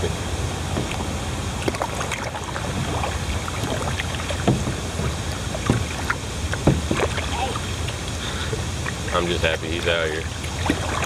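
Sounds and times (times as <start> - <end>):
moving water: 0.0 - 11.0
wind: 0.0 - 11.0
paddle splashing and dripping: 0.4 - 11.0.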